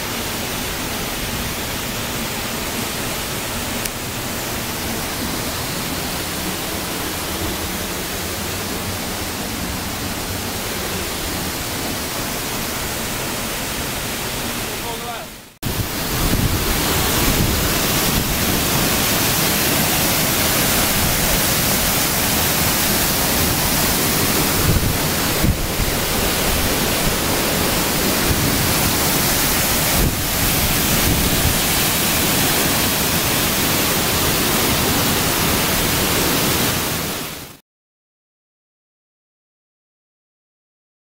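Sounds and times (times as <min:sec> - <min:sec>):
waterfall rushing over rocks: 0:00.0 - 0:37.6.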